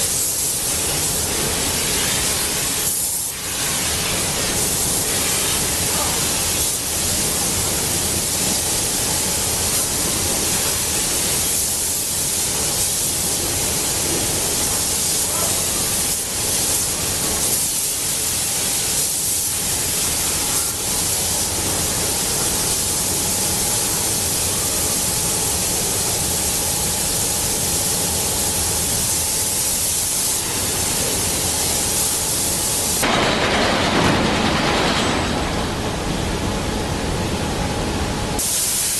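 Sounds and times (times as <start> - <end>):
paint spray head hissing: 0.0 - 33.0, 38.4 - 38.9.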